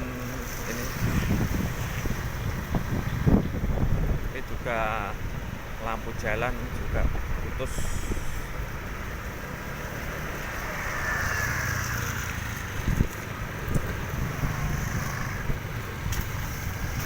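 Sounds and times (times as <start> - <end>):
vehicles passing with low rumble: 0.0 - 17.0.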